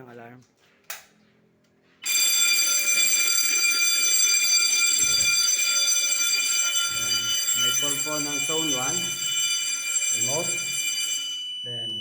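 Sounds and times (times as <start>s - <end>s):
high-pitched fire alarm tone: 2.0s - 12.0s.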